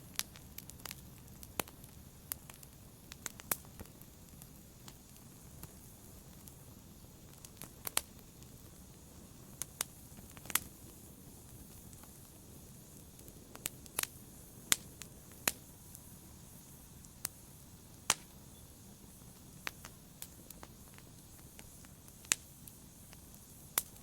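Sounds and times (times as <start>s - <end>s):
low hiss of burning: 0.0s - 24.0s
wood fire crackling and popping: 0.0s - 24.0s.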